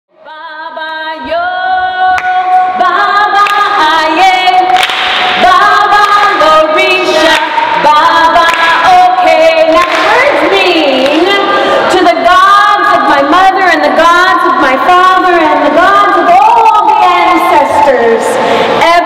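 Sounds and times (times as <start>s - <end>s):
voices singing along: 0.2s - 19.0s.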